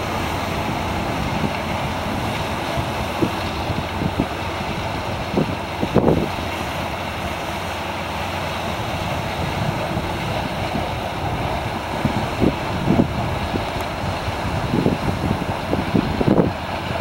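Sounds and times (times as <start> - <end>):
waves breaking on a beach: 0.0 - 17.0
wind rumbling on microphone: 0.0 - 17.0.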